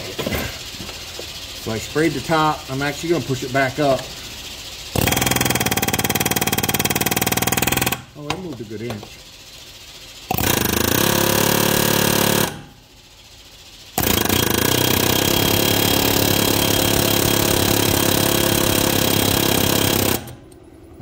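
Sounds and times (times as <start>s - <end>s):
pneumatic air hammer rattling: 0.0s - 20.6s.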